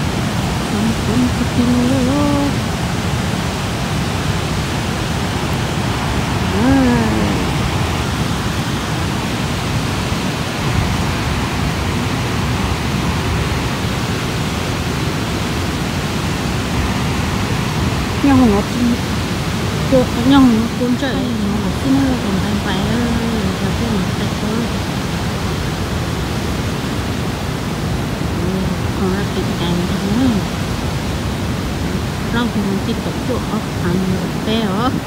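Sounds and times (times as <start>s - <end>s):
water rushing over dam gates: 0.0s - 35.0s.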